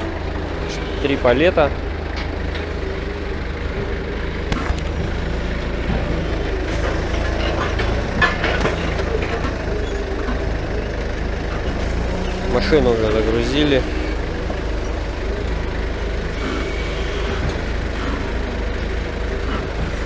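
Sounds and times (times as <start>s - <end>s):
forklift motor hum: 0.0s - 20.0s.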